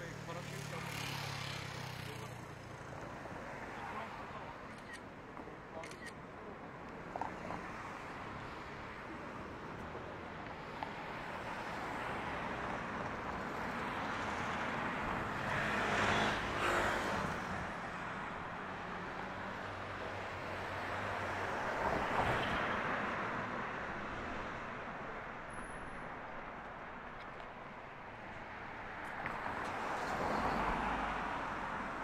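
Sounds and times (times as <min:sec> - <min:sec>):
steady traffic noise: 0:00.0 - 0:32.0
vehicles passing: 0:00.0 - 0:32.0.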